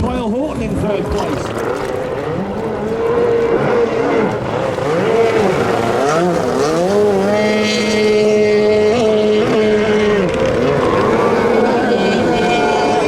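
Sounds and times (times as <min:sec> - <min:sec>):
jet ski engines at full throttle: 0:00.0 - 0:13.0.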